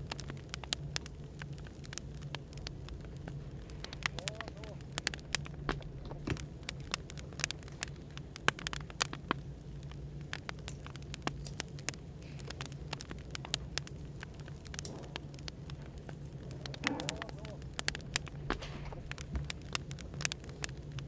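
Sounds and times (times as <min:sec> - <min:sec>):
burning firewood crackling: 0:00.0 - 0:21.0
low background white noise: 0:00.0 - 0:21.0.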